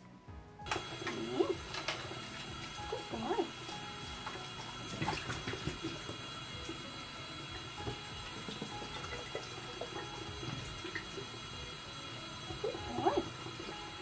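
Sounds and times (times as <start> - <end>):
water running from a tap: 0.7 - 14.0.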